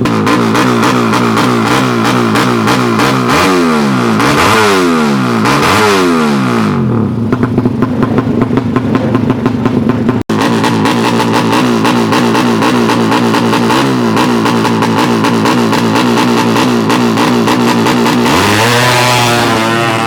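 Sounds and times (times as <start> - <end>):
motorcycle engines revving hard: 0.0 - 20.0.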